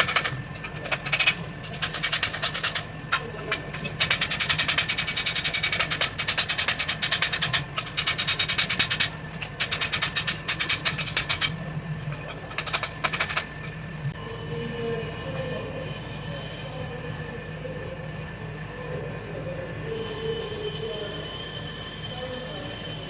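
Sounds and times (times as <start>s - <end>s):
mechanical hum with high tones: 0.0s - 23.0s.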